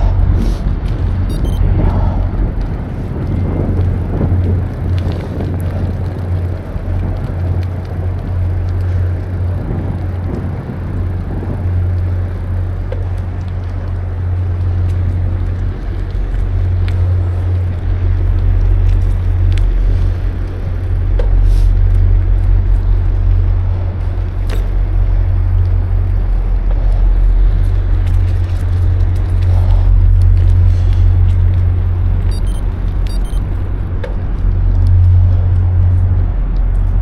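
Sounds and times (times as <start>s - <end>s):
road and tyre noise: 0.0s - 37.0s
wind buffeting microphone: 0.0s - 37.0s.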